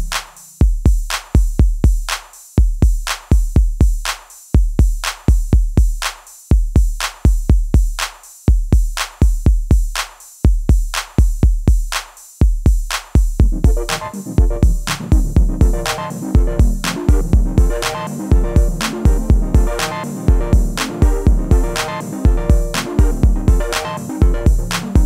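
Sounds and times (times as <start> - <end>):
drum machine beat: 0.0 - 25.0.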